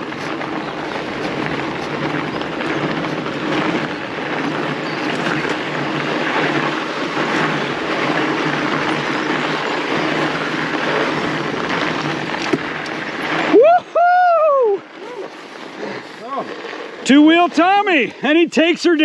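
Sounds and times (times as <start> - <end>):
bike rattling: 0.0 - 19.0
tyres rolling over snow: 0.0 - 19.0.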